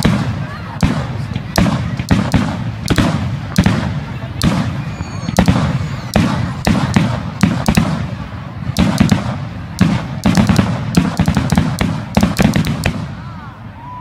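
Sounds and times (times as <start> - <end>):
fireworks bursting: 0.0 - 13.5
low rumbling echo: 0.0 - 14.0.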